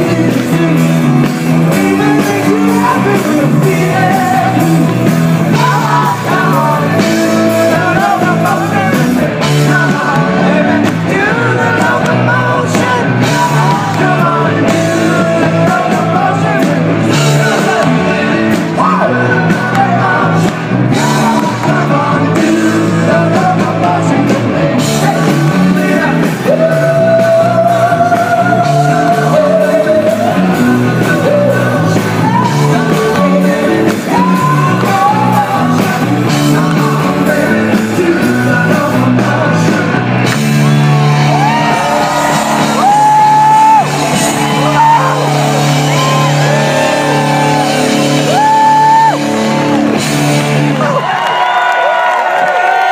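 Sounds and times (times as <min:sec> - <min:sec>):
man singing: 0:00.0 - 0:49.2
drums beating: 0:00.0 - 0:52.9
live rock band: 0:00.0 - 0:52.9.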